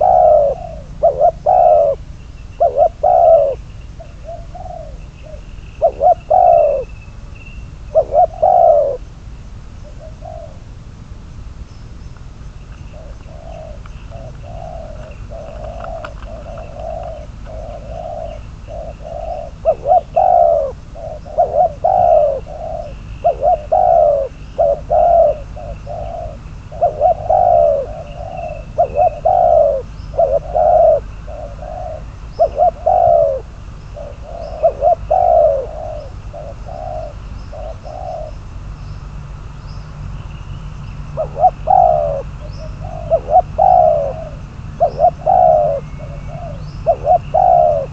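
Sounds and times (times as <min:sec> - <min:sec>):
dove cooing: 0:00.0 - 0:09.1, 0:09.8 - 0:10.8, 0:12.6 - 0:38.7, 0:41.0 - 0:47.9.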